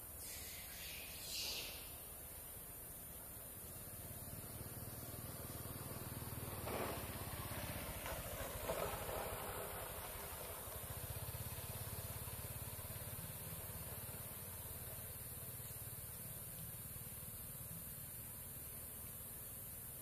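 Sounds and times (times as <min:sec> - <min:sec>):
low engine hum: 0:00.0 - 0:20.0
steady high hiss: 0:00.0 - 0:20.0.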